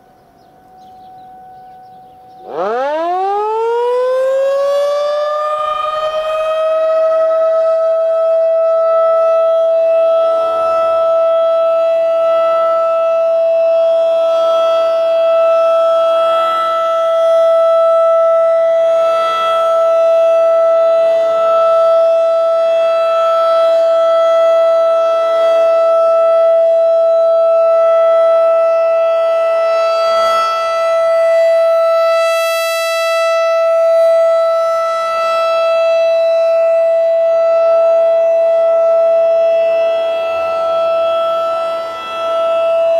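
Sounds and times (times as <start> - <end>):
civil defense siren alert tone: 0.0 - 42.9
faint distant sirens: 0.0 - 42.9.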